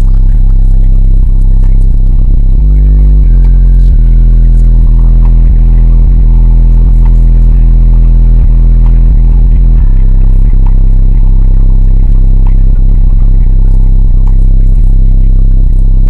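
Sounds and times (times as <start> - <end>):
bass-heavy song on subwoofers: 0.0 - 16.0.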